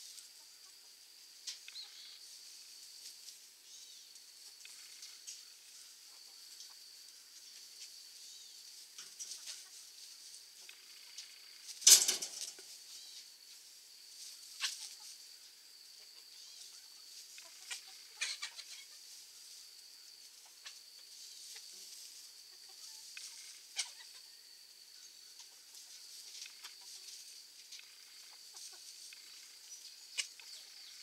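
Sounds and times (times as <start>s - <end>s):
chickens scratching in dry grass: 0.0s - 31.0s
steady high-pitched hiss: 0.0s - 31.0s
chickens clucking: 0.1s - 3.5s, 4.2s - 31.0s.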